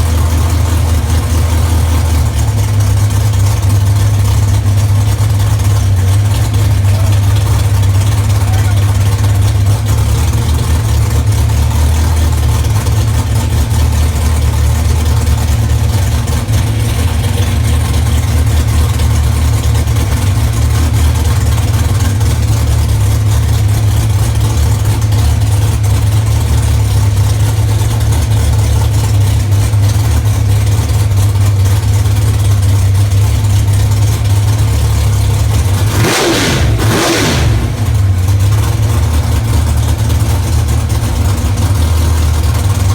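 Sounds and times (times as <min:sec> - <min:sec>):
car engine idling loudly: 0:00.0 - 0:42.9.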